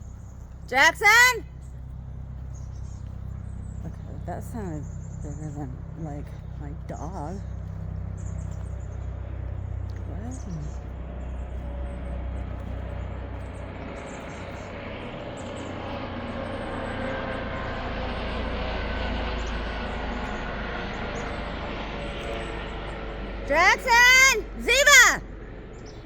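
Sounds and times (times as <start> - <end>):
distant engine rumble: 0.0 - 26.0.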